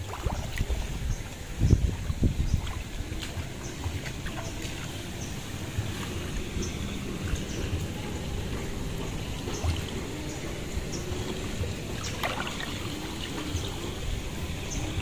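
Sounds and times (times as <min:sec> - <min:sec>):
muddy water sloshing and trickling: 0:00.0 - 0:15.0.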